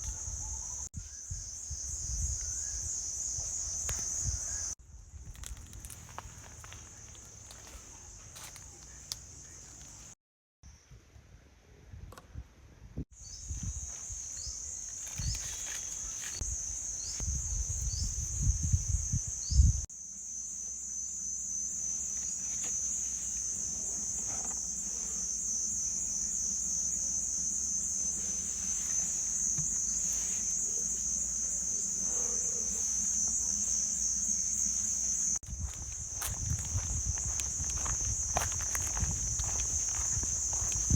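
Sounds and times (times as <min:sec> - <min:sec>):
insects chirring: 0:00.0 - 0:10.2, 0:13.2 - 0:40.9.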